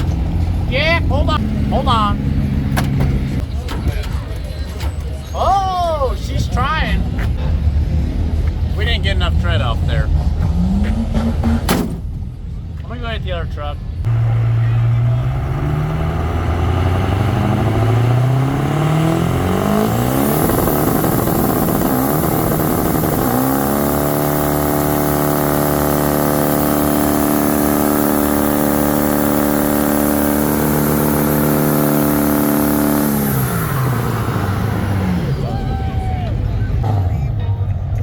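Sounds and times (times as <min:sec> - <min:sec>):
truck engine revving: 0:00.0 - 0:03.5, 0:07.0 - 0:12.7, 0:13.8 - 0:38.0.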